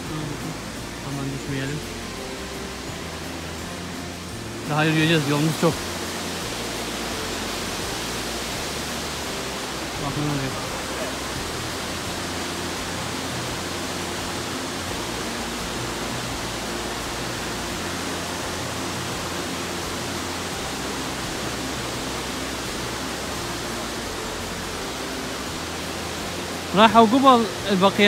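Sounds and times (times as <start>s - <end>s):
white-water river and waterfall: 0.0s - 28.0s.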